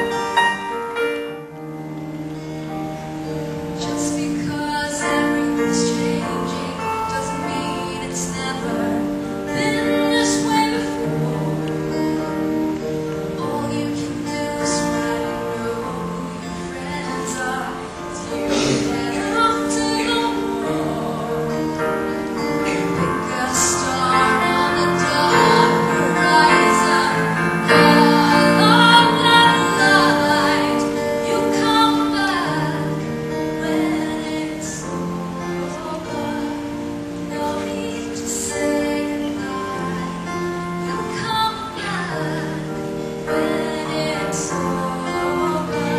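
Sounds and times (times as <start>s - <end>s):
woman singing a slow song: 3.2s - 45.9s.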